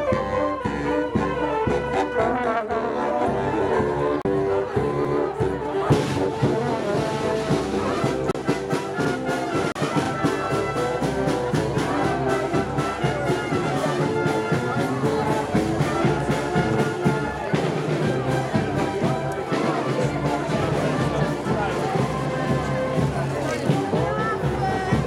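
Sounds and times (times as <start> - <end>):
brass band playing: 0.0 - 25.0
sharp drum beats: 4.6 - 25.0.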